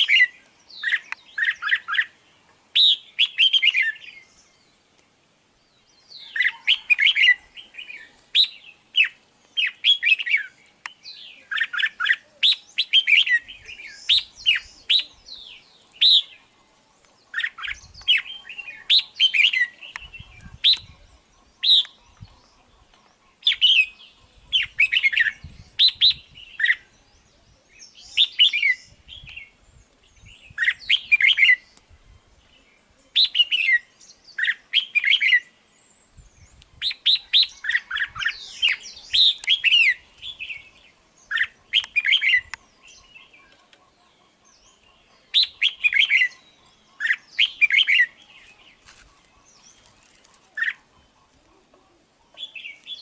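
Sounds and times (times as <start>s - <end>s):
bulbul singing: 0.0s - 5.0s, 5.6s - 53.0s.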